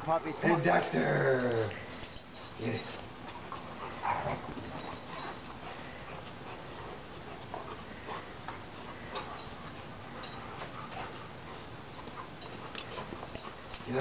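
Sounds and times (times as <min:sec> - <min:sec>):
dogs scuffling: 0:01.7 - 0:14.0.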